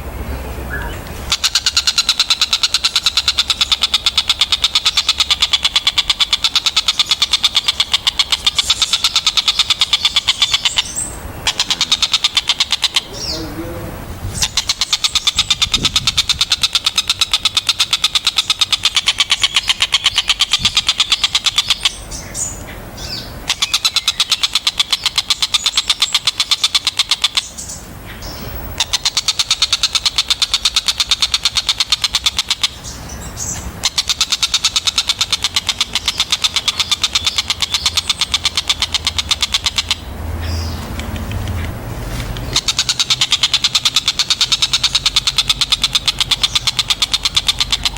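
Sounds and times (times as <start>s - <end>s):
kingfisher rattling chatter: 1.3s - 22.2s, 28.6s - 33.0s, 33.8s - 47.9s.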